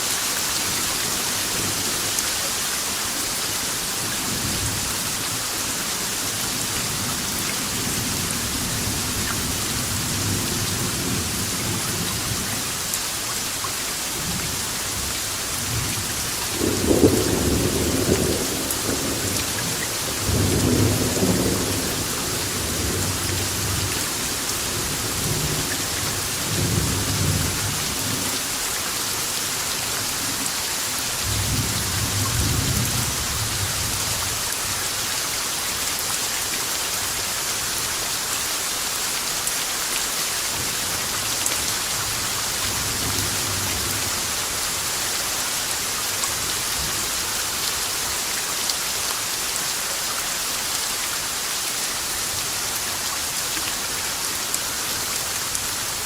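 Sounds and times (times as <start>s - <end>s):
heavy rainfall hissing: 0.0s - 56.0s.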